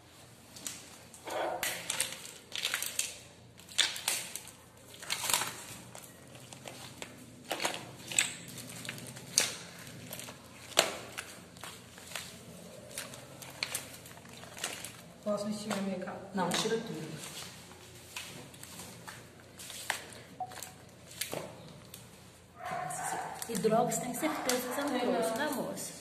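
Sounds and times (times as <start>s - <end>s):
rustling and crinkling of plastic: 0.0s - 26.0s.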